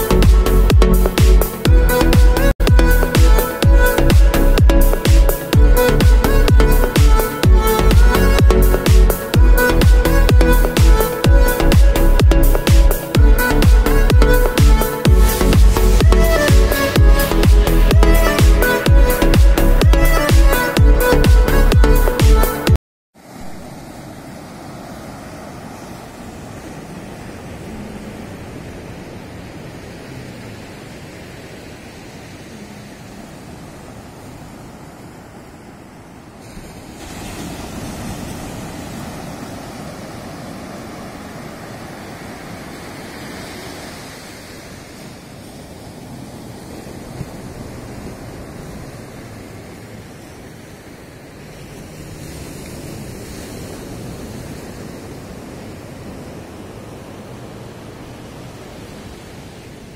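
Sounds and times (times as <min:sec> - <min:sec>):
wind rumbling on microphone: 0:00.0 - 0:22.4, 0:23.3 - 0:59.9
surf washing up a beach: 0:00.0 - 0:59.9.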